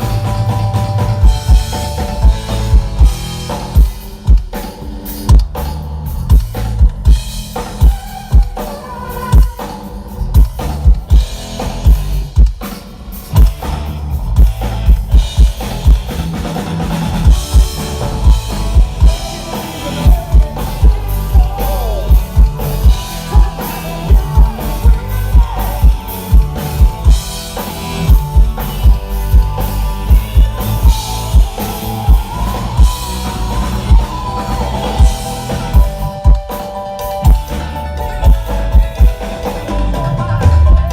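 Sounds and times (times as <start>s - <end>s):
bass drum beat with snare: 0.0s - 40.9s
live band playing: 0.0s - 40.9s.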